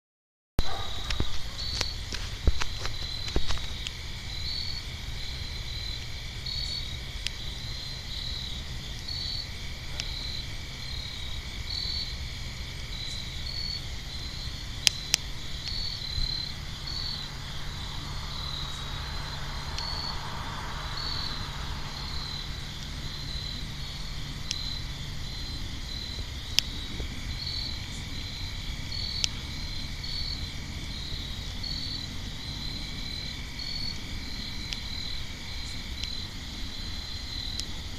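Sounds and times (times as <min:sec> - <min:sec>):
campfire crackling pops: 0:00.6 - 0:37.9
crickets chirping: 0:00.6 - 0:37.9.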